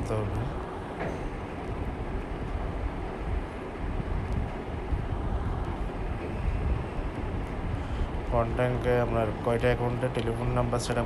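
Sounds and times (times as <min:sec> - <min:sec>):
low background rumble and hiss: 0:00.0 - 0:11.0.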